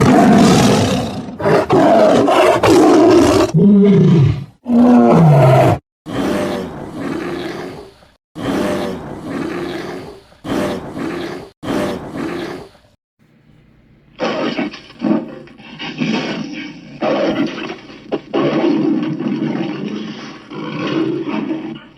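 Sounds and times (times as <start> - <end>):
dog roaring and growling: 0.0 - 12.8, 14.2 - 21.9.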